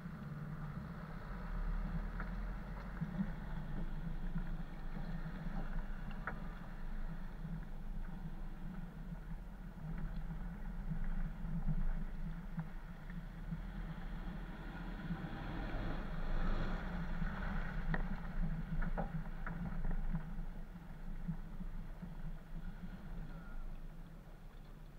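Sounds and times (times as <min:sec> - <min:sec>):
vehicle driving on muddy track: 0:00.0 - 0:24.9.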